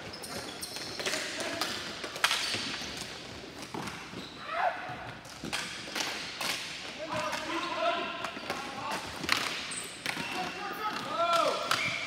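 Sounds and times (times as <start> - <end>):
ball striking rink boards: 0.3 - 4.2, 4.9 - 12.0.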